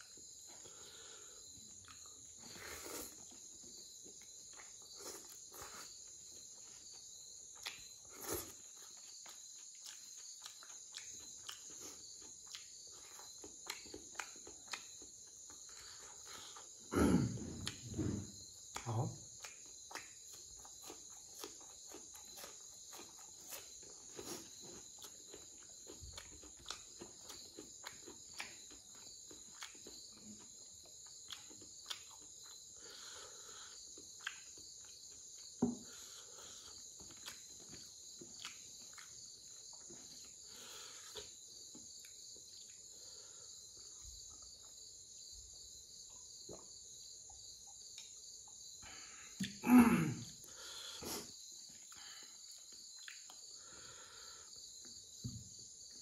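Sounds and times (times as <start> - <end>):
chewing: 0.0 - 16.8, 17.6 - 44.9, 51.0 - 54.1
crickets chirping: 0.0 - 56.0.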